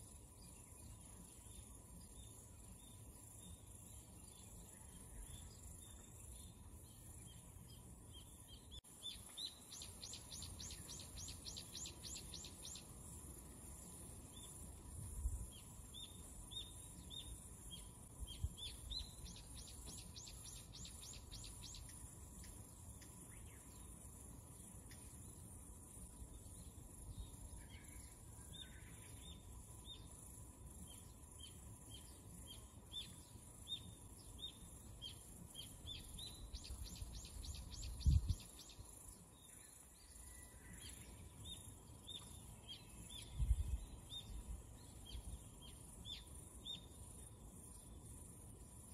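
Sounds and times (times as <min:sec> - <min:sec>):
bird chirping: 0:00.0 - 0:48.3
steady high hiss: 0:00.0 - 0:48.9.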